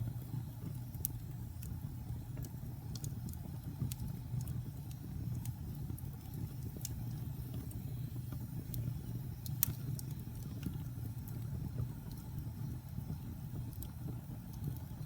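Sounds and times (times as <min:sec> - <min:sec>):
fire crackling and popping: 0:00.0 - 0:15.0
fire rumbling low: 0:00.0 - 0:15.0.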